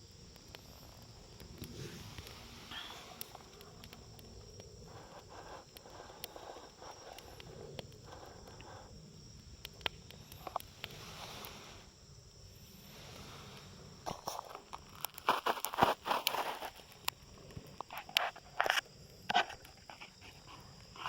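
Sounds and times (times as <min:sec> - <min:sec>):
campfire crackling: 0:00.0 - 0:21.0
fire popping: 0:00.0 - 0:21.0.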